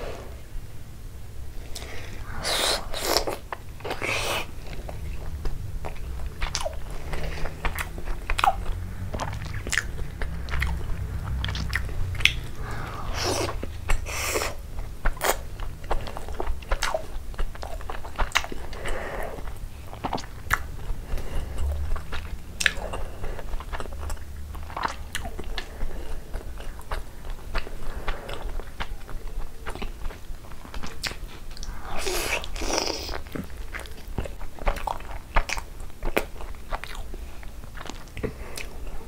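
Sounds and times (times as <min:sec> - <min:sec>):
steady low hum: 0:00.0 - 0:39.0
person chewing: 0:01.6 - 0:39.0.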